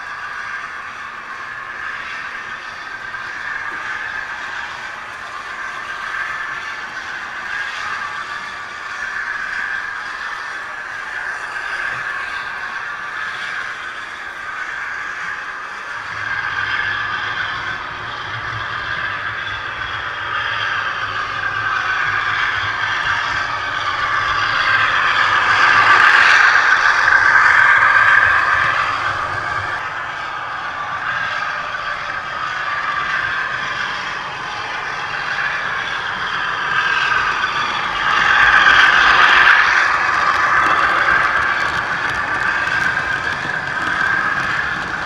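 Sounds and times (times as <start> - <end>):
model trains rattling: 0.0 - 45.0.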